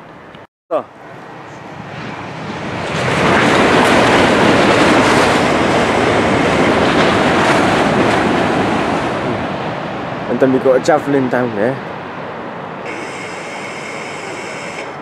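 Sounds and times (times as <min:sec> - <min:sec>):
train passing at speed: 0:00.8 - 0:15.0.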